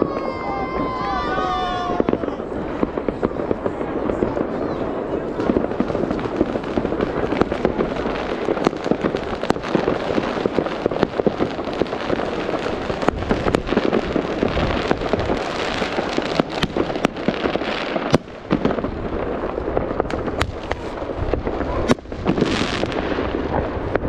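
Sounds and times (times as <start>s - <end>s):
fireworks crackling: 0.0s - 24.0s
sharp firework bang: 0.0s - 24.0s.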